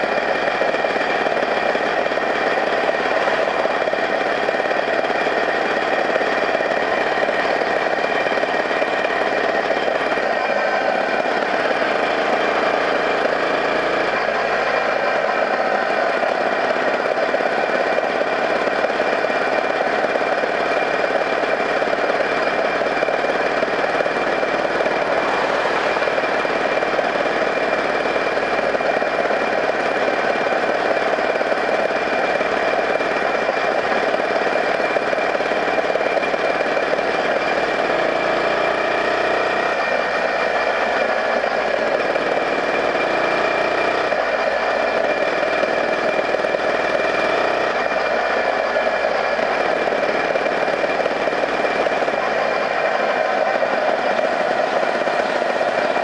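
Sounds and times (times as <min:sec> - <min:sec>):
small engine rattling: 0:00.0 - 0:56.0.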